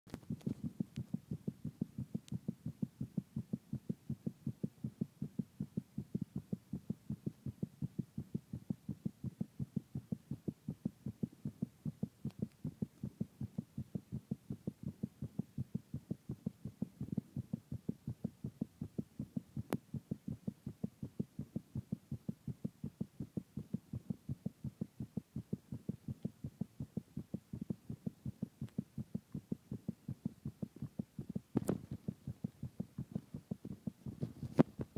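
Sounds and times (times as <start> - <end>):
heartbeat: 0.1 - 34.9.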